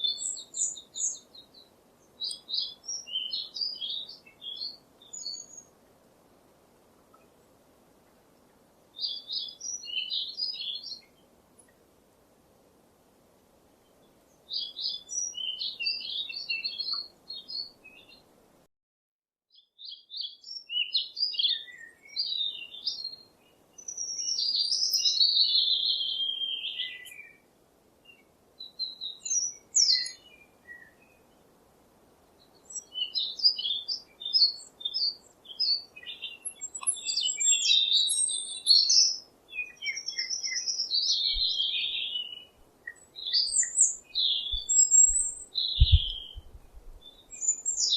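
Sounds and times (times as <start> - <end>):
songbirds chirping and warbling: 0.0 - 11.9, 13.6 - 18.5, 19.5 - 47.9
faint background hiss: 0.0 - 18.7, 19.5 - 47.9.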